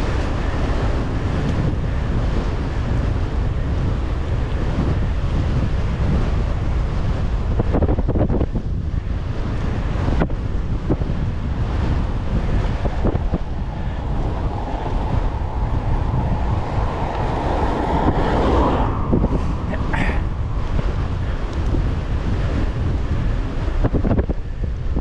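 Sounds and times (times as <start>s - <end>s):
rushing noise: 0.0s - 25.0s
wind buffeting microphone: 0.0s - 25.0s.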